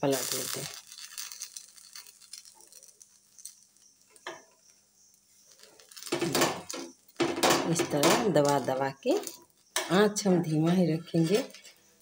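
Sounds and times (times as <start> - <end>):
food sizzling in oil: 0.0 - 11.6.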